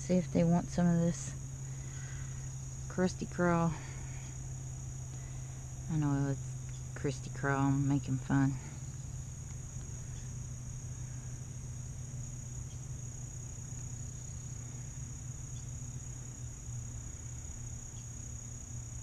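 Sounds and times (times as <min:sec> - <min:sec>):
crickets trilling: 0:00.0 - 0:19.0
low steady hum: 0:00.0 - 0:19.0.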